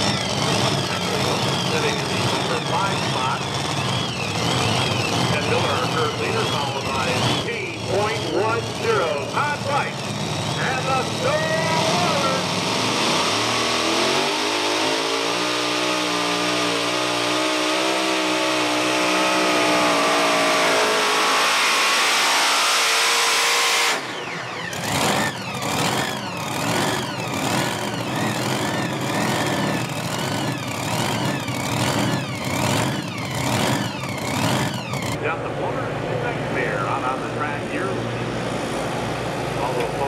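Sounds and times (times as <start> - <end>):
supercharged engines running hard: 0.0 - 40.0.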